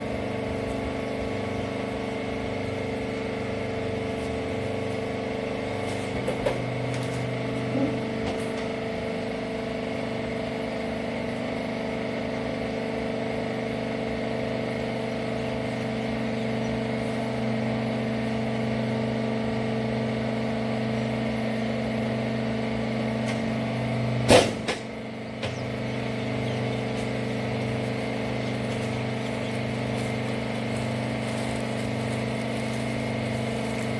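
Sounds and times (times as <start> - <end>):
baling machine motor hum: 0.0 - 33.9.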